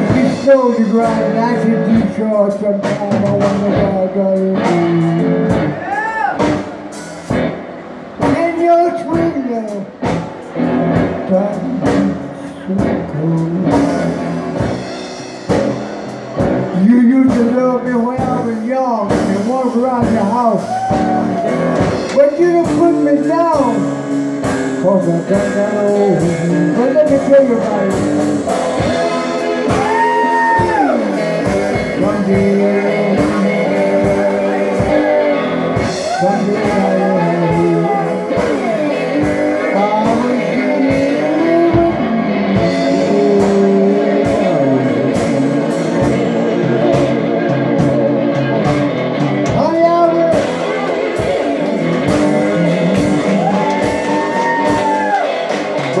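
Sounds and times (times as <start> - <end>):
bending lead notes: 0.0 - 56.0
drum kit beat: 0.0 - 56.0
electric guitar: 0.0 - 56.0.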